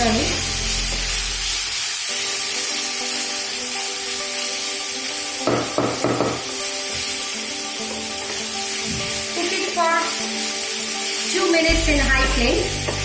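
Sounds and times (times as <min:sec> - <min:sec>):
background music: 0:00.0 - 0:13.0
food sizzling in a pan: 0:00.0 - 0:13.0.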